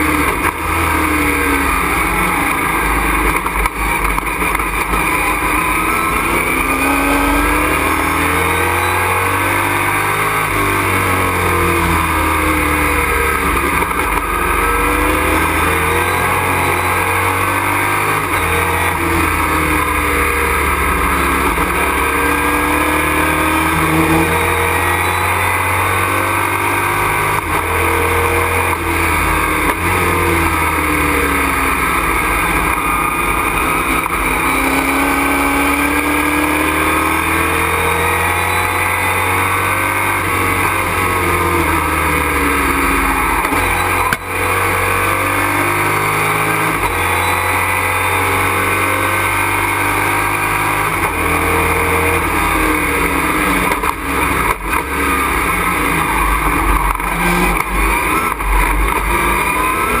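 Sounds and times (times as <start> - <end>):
race truck engine revving: 0.0 - 60.0.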